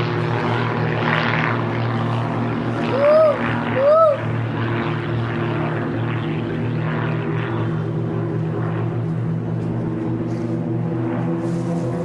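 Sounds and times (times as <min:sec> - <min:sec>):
propeller planes droning overhead: 0:00.0 - 0:12.0.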